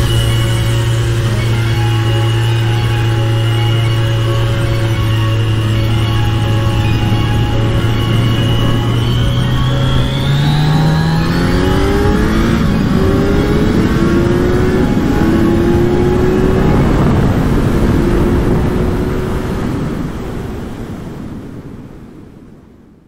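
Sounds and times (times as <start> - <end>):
motorcycle engine accelerating: 0.0 - 20.4.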